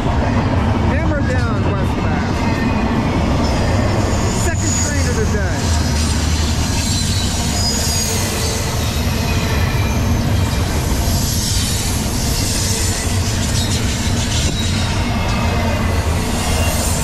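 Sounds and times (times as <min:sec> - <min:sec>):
train wheels rumbling on rails: 0:00.0 - 0:17.0
high wheel squeals: 0:03.4 - 0:17.0.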